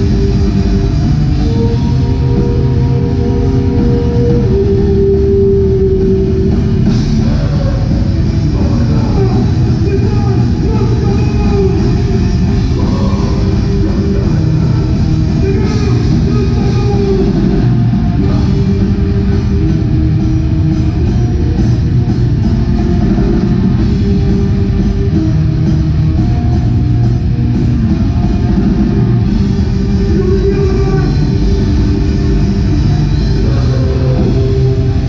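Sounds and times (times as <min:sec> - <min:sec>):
metal band playing live: 0:00.0 - 0:35.0.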